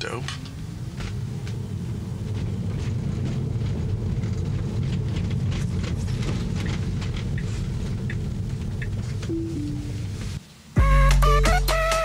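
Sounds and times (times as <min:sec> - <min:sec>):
road and tyre rumble: 0:00.0 - 0:10.7.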